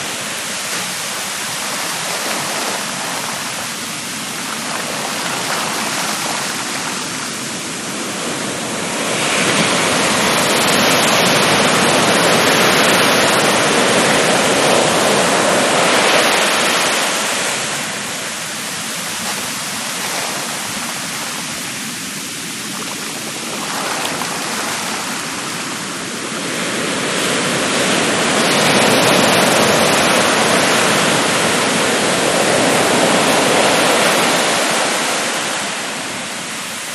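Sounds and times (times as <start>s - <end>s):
ocean waves breaking on beach: 0.0s - 36.9s.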